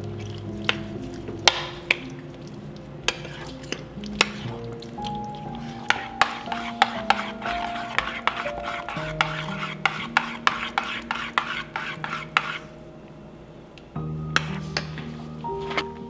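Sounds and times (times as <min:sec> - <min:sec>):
spoon stirring thick dip: 0:00.0 - 0:12.8, 0:14.4 - 0:15.9
soft music: 0:00.0 - 0:16.0.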